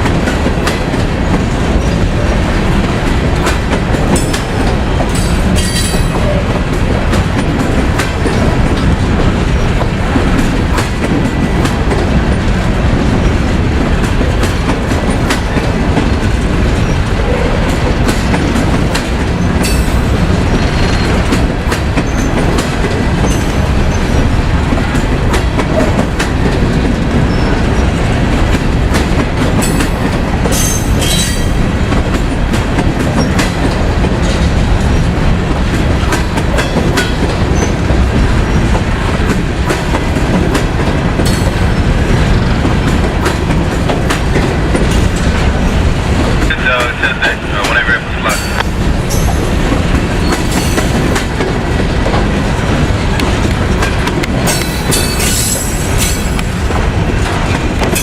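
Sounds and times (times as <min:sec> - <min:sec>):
freight train cars rumbling past: 0:00.0 - 0:58.0.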